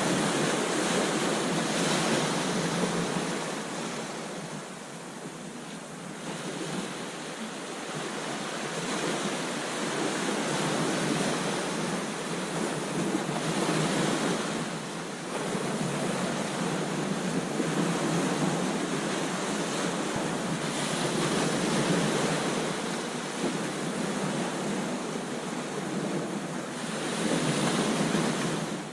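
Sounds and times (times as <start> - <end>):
ocean waves breaking: 0.0 - 28.9
wind noise on microphone: 0.0 - 28.9.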